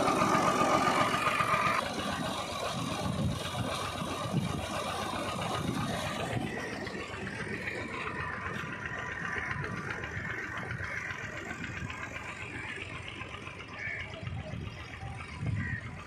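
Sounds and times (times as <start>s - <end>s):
water gushing from pipe: 0.0s - 14.0s
diesel tractor engine running: 0.0s - 16.0s.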